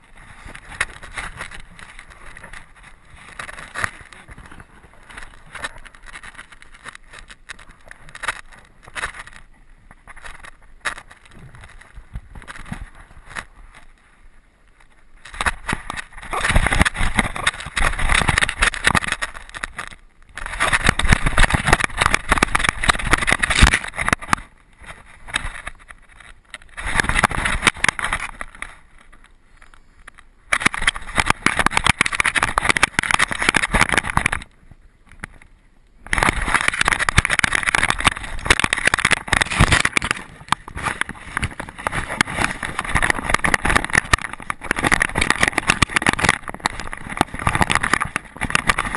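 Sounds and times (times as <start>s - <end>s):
jolting rumble of camera: 0.0s - 48.9s.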